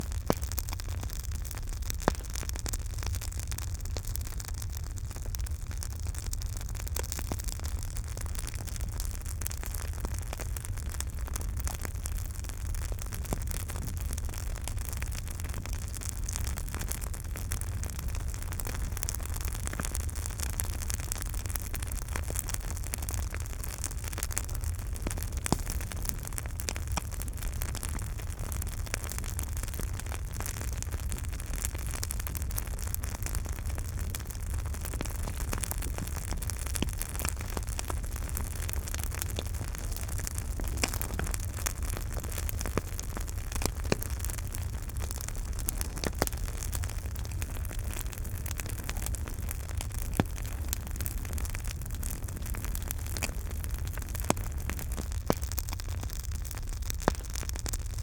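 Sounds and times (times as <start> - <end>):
campfire crackling: 0.0 - 58.0
low rumble of fire: 0.0 - 58.0
loud fire pops: 0.1 - 58.0.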